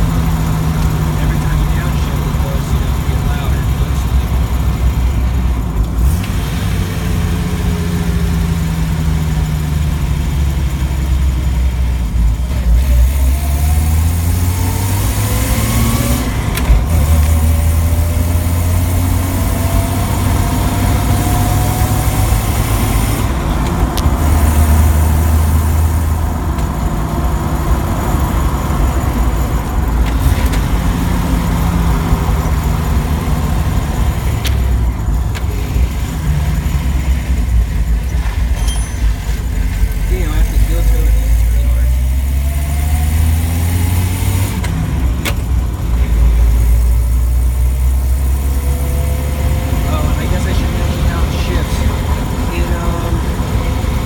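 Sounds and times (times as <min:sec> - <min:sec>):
car engine accelerating: 0:00.0 - 0:54.0
road noise: 0:00.0 - 0:54.0.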